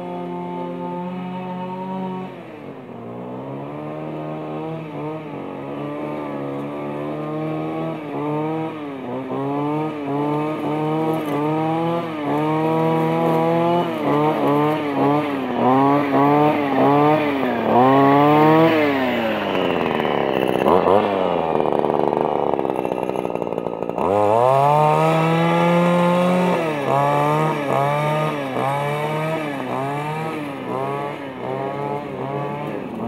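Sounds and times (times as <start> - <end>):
string trimmer revving: 0.0 - 33.0.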